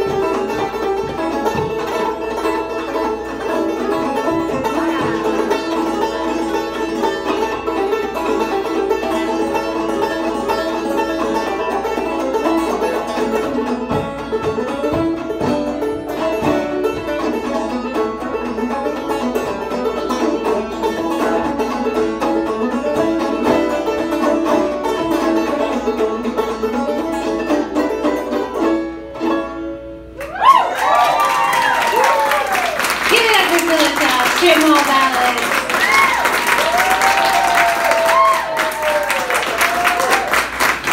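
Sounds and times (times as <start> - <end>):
banjos playing old-time tune: 0.0 - 30.2, 33.1 - 38.3, 38.9 - 40.9.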